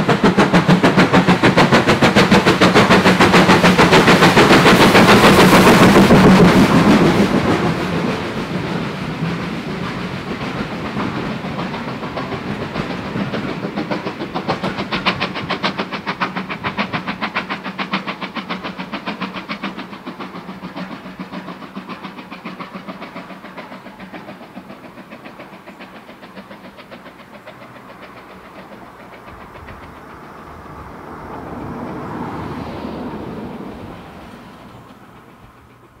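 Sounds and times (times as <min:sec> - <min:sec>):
steam locomotive chuffing: 0:00.0 - 0:36.0.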